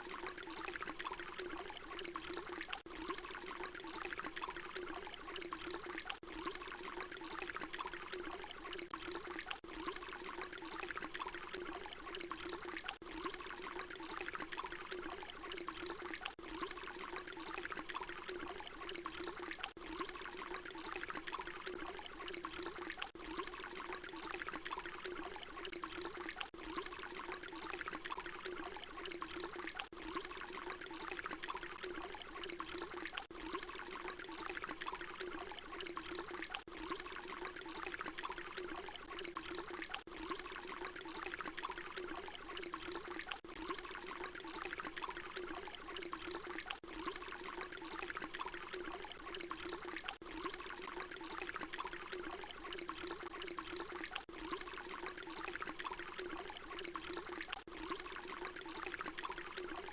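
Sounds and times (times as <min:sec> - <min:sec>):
water pouring and splashing: 0:00.0 - 0:59.9.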